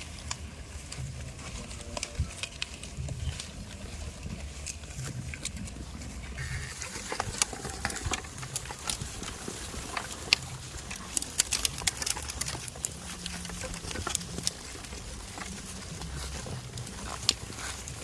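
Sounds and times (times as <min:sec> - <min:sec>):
goat hooves clicking and tapping: 0:00.0 - 0:18.0.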